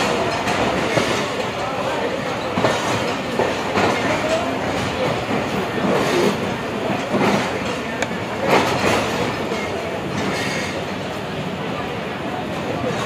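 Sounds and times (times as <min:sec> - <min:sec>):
train wheels knocking and clacking: 0:00.0 - 0:11.2
train rolling rumble: 0:00.0 - 0:13.0.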